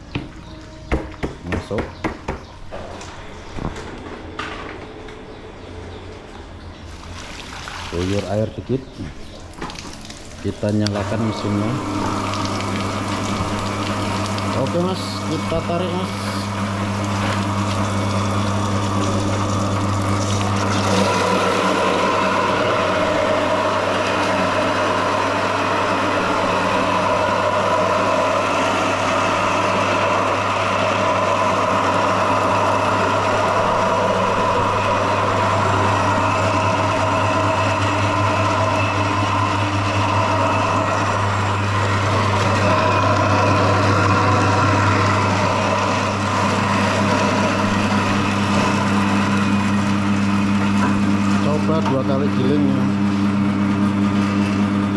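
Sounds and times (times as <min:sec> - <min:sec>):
machine motor humming: 0:00.0 - 0:06.6, 0:08.0 - 0:54.9.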